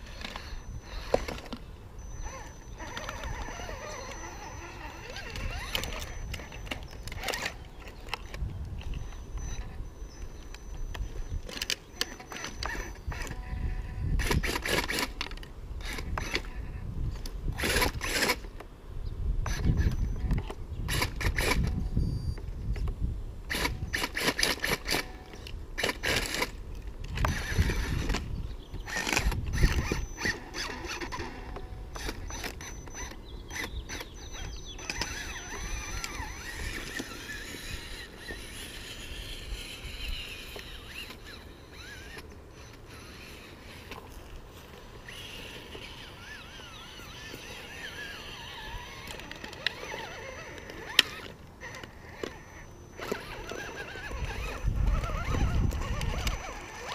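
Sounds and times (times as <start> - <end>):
toy car motor whirring: 0.0 - 18.6, 19.4 - 22.1, 23.5 - 56.9.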